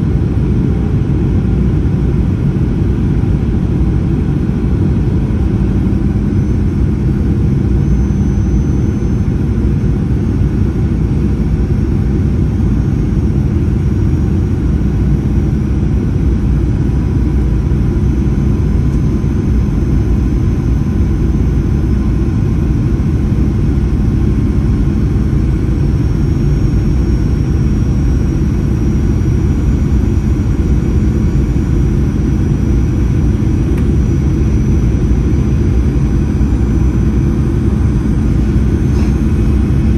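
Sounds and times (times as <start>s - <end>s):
airplane cabin rumble: 0.0s - 39.9s
faint high whine: 0.0s - 39.9s.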